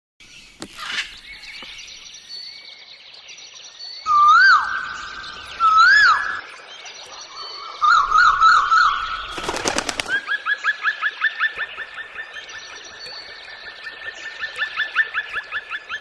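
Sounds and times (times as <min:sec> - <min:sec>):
birds whistling and calling: 0:00.2 - 0:16.0.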